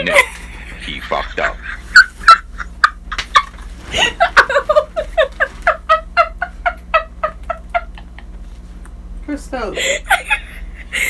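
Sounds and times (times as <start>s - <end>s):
person cackling laugh: 0.0s - 8.4s, 9.8s - 11.0s.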